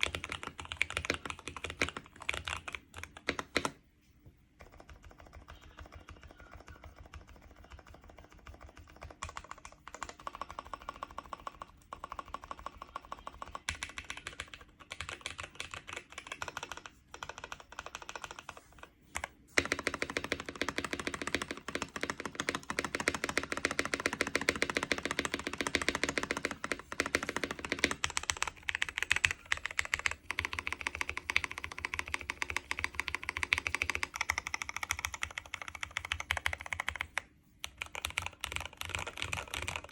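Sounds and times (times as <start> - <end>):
mechanical keyboard typing: 0.0 - 3.8, 4.6 - 39.9.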